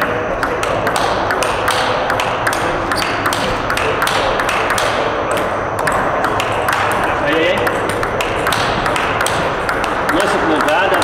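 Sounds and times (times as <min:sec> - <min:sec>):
table tennis ball clicking: 0:00.0 - 0:11.0.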